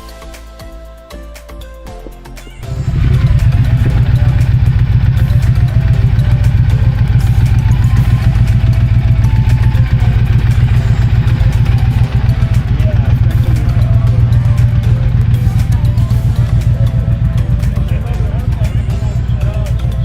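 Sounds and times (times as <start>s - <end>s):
motorcycle engine idling: 2.6s - 20.0s.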